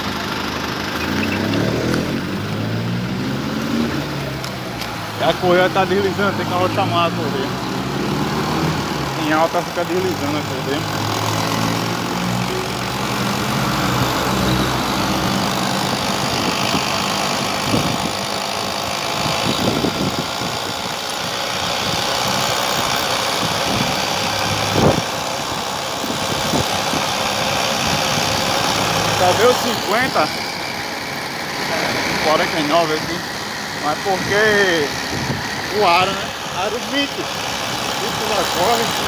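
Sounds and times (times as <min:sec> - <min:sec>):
electric motor drive running: 0:00.0 - 0:39.0
wind and road noise: 0:00.0 - 0:39.0
drive belt slipping: 0:04.1 - 0:39.0.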